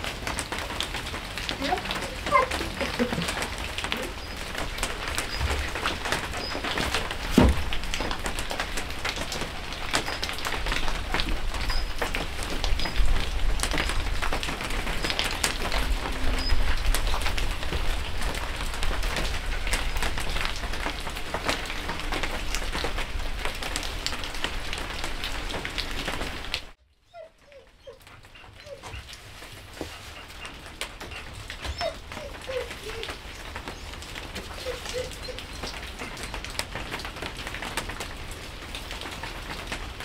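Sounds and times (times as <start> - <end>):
rain pattering on roof: 0.0 - 40.0.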